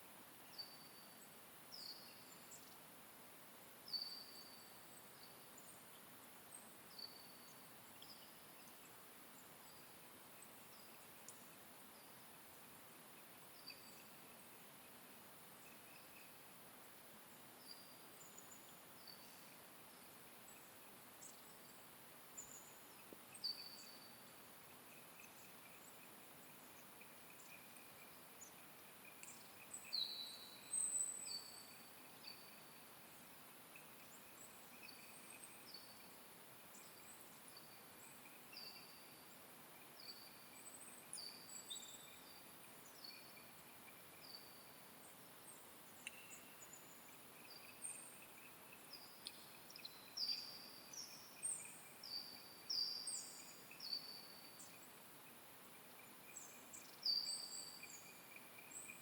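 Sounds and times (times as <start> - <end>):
faint high-pitched buzz: 0.0 - 59.0
small birds chirping: 0.4 - 2.9, 3.8 - 59.0.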